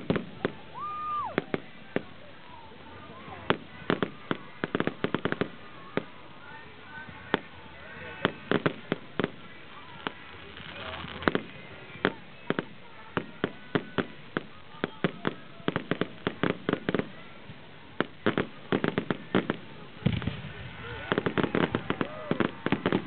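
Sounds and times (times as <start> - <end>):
fireworks bursting with bangs: 0.0 - 23.0
fireworks crackling: 0.0 - 23.0.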